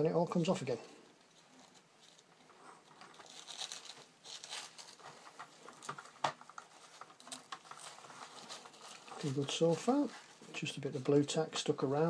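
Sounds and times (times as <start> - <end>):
paper and tape crinkling and tearing: 1.2 - 11.4.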